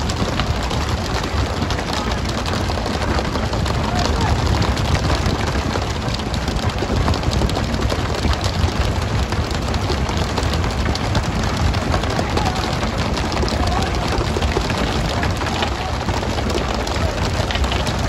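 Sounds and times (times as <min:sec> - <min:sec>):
fish flapping on deck: 0:00.0 - 0:18.0.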